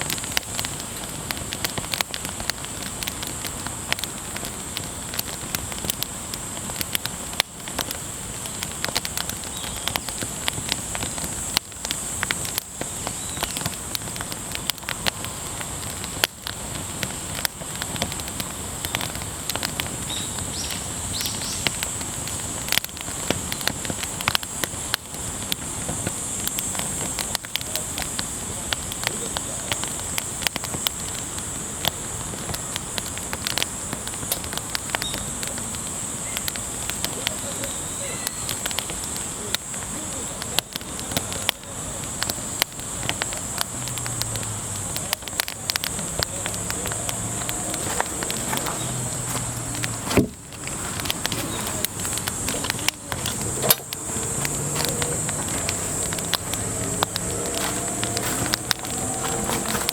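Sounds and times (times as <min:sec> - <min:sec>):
campfire crackling and popping: 0:00.0 - 0:59.9
high-pitched hiss: 0:00.0 - 0:59.9.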